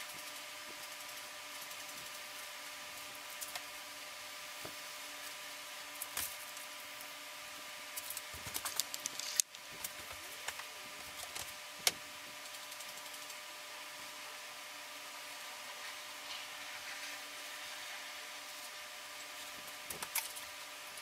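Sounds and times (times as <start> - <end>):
room hum and hiss: 0.0 - 21.0.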